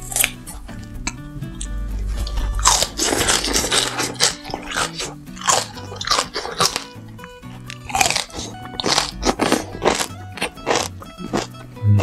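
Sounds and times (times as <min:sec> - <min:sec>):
crunchy chewing: 0:00.0 - 0:00.6, 0:01.6 - 0:11.6
background music: 0:00.0 - 0:12.0.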